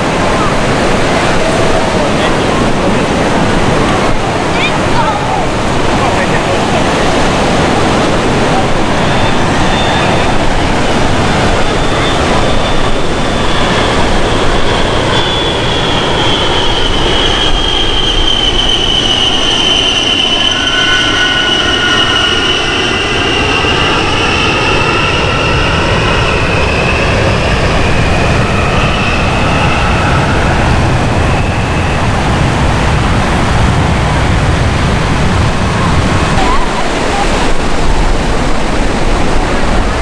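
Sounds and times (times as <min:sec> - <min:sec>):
jet engines whining on a pass: 0:00.0 - 0:40.0.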